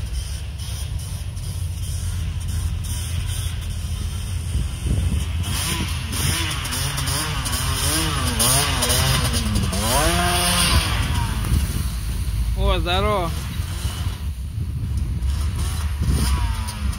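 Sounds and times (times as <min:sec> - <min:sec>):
low rumble: 0:00.0 - 0:16.9
quad engine revving: 0:00.0 - 0:16.9.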